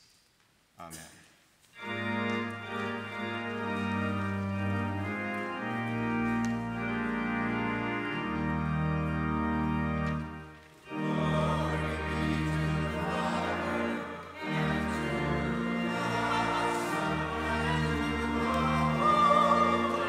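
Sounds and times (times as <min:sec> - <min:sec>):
church organ chords: 0:01.8 - 0:20.0.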